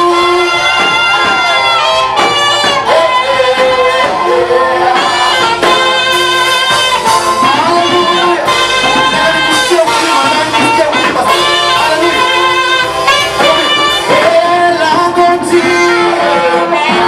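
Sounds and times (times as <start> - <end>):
band playing: 0.0 - 17.0
voices singing: 0.0 - 17.0.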